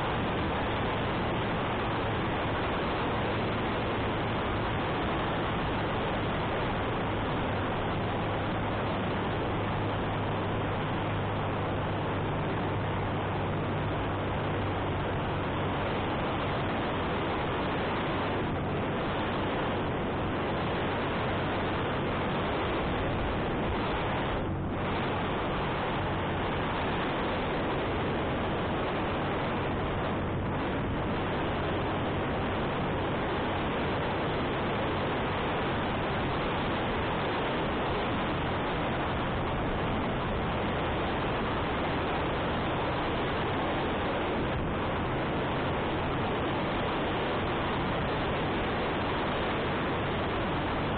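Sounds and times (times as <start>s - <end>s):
motorcycle engine hum: 0.0s - 50.9s
wind rushing over microphone: 0.0s - 50.9s.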